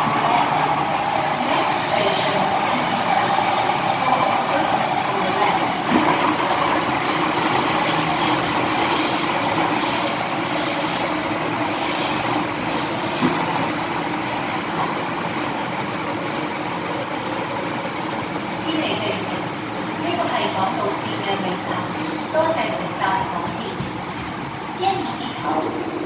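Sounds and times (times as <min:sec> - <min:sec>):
train rumbling in tunnel: 0:00.0 - 0:26.0.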